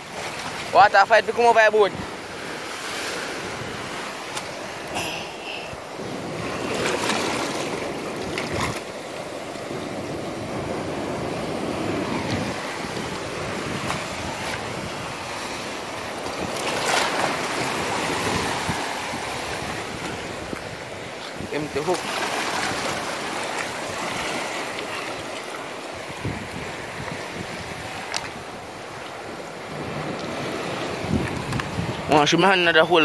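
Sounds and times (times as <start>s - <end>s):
surf washing over rocks: 0.0s - 33.0s.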